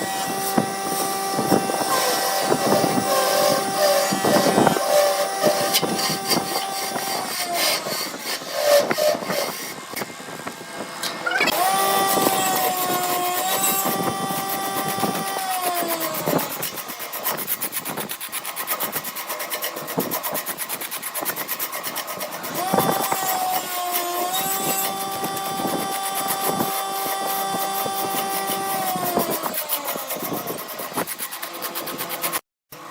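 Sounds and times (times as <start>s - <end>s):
wood lathe whining: 0.0s - 32.4s.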